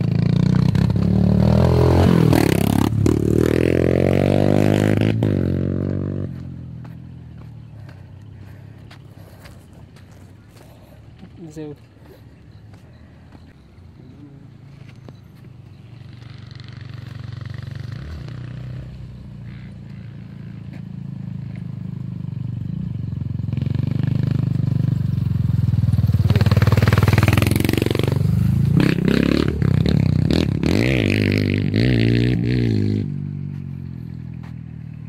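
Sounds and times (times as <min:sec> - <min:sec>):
vehicle engine revving: 0:00.0 - 0:09.7, 0:15.7 - 0:35.0.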